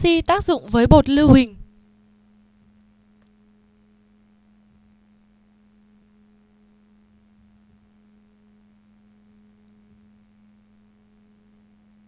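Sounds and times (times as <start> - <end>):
faint high whine: 0.0 - 12.0
faint low hum: 0.0 - 12.0.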